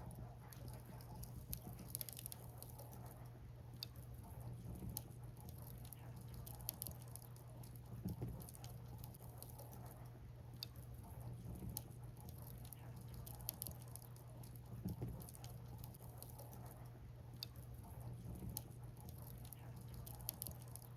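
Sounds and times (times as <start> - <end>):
faint steady low background: 0.0 - 20.9.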